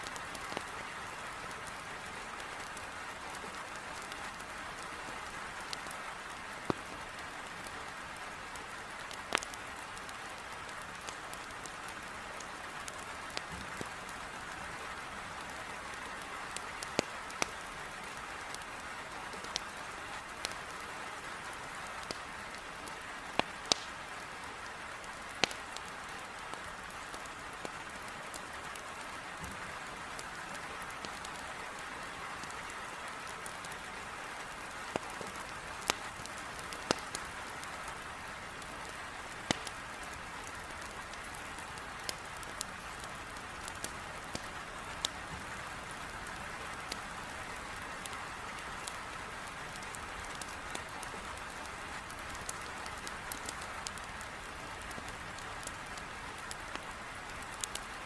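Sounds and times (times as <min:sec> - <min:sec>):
rain beating on a window: 0:00.0 - 0:58.0
wood fire crackling: 0:00.0 - 0:58.0.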